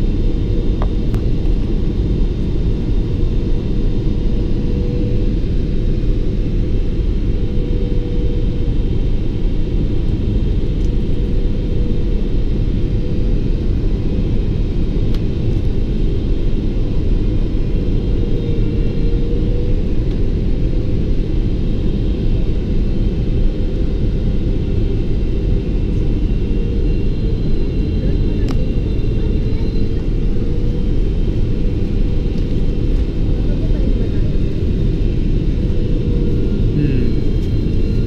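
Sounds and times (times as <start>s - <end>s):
airplane cabin rumble: 0.0s - 38.0s.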